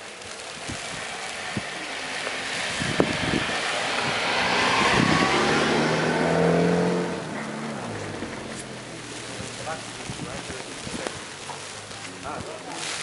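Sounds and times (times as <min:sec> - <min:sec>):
car engine hum: 0:00.0 - 0:12.6
tyres hissing through snow: 0:00.0 - 0:13.0.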